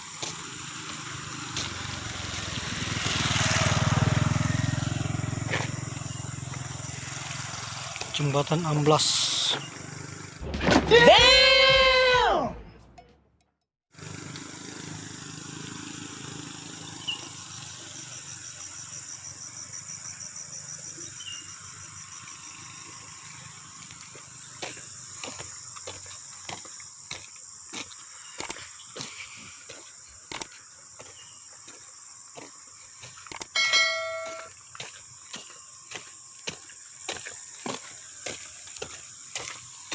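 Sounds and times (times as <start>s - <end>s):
insects chirring: 0.0s - 12.0s, 14.0s - 39.9s.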